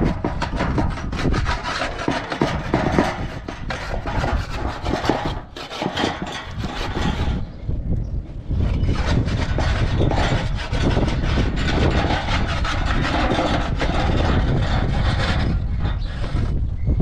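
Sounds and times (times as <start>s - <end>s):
metal spatula scraping on griddle: 0.0s - 7.5s, 8.6s - 16.6s.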